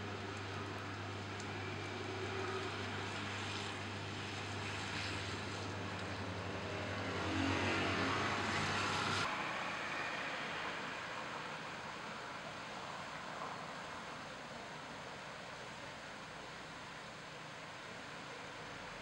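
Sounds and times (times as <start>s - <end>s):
tyres hissing on wet road: 1.4s - 17.4s.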